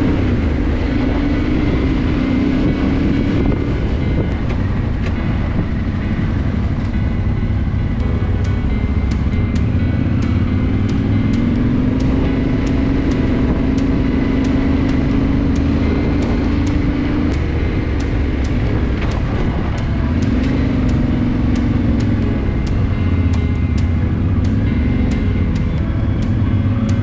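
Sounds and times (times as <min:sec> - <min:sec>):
motorcycle engine running: 0:00.0 - 0:27.0
wind rumble on microphone: 0:00.0 - 0:27.0.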